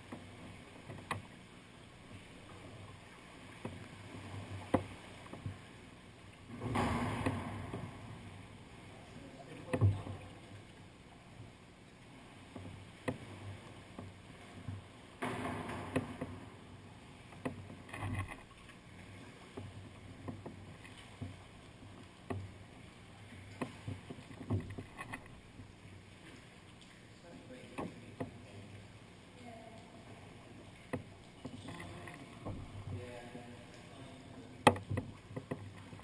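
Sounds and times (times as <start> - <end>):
small water splashes and drips: 0.0 - 36.0.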